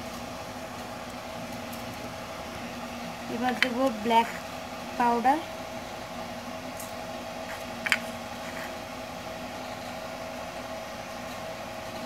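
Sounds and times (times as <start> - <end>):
background hum with faint tones: 0.0 - 12.0.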